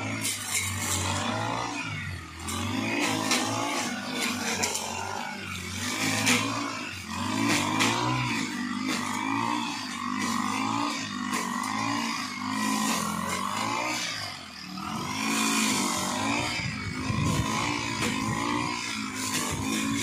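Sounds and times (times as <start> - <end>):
brush cutter engine running: 0.0 - 20.0.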